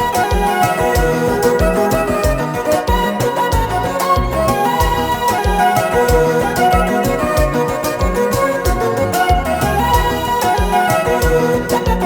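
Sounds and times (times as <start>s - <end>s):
bass line: 0.0s - 12.0s
drums keeping a steady beat: 0.0s - 12.0s
keyboard chords: 0.0s - 12.0s.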